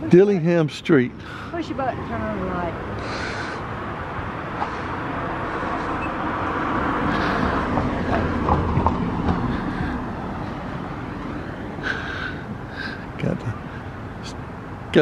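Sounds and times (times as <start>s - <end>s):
passing vehicle rumble: 0.0s - 15.0s.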